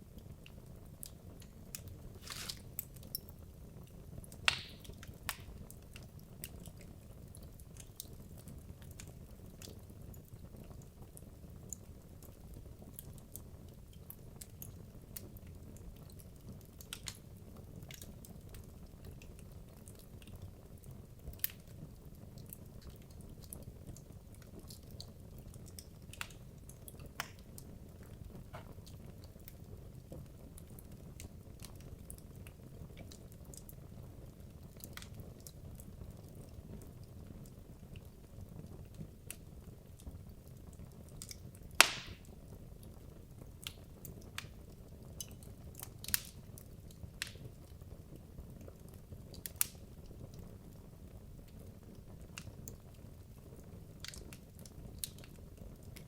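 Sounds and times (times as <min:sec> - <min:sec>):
fire crackling and popping: 0:00.0 - 0:56.0
low rumble of flame: 0:00.0 - 0:56.0.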